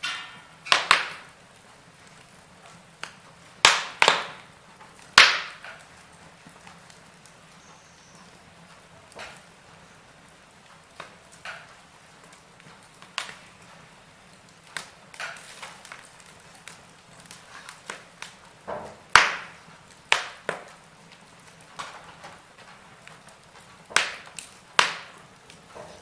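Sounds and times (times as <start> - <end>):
faint steady hiss: 0.0 - 26.0
sharp pops of fire: 0.0 - 26.0
wood fire crackling: 0.0 - 26.0.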